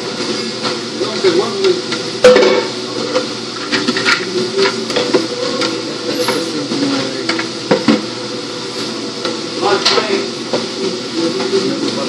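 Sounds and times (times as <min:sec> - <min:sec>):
kitchen machine hum: 0:00.0 - 0:12.0.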